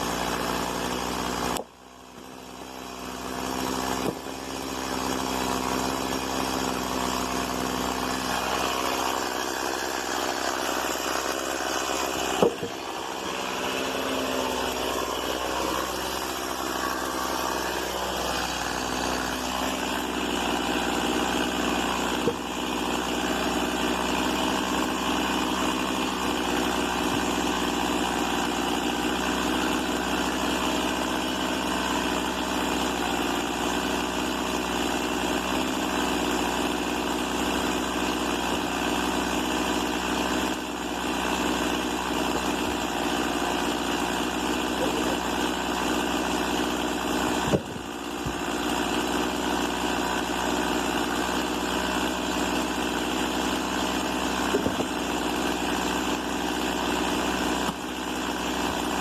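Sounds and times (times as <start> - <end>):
chainsaw engine running: 0.0 - 59.0.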